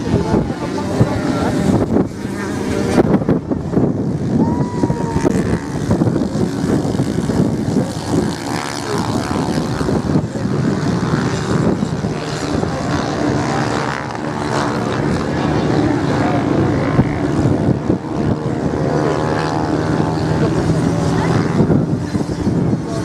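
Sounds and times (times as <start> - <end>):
off-road motorcycles racing: 0.0 - 23.0.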